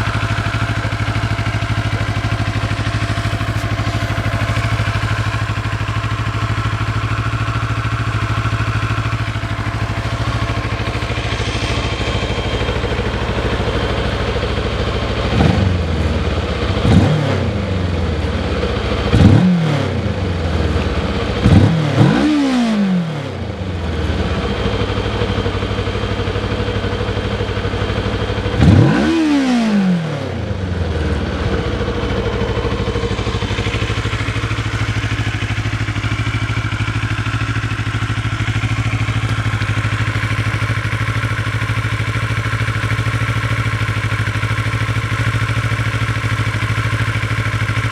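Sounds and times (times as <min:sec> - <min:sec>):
engine throttle blips: 0:00.0 - 0:47.9
motorcycle engine idling: 0:00.0 - 0:47.9.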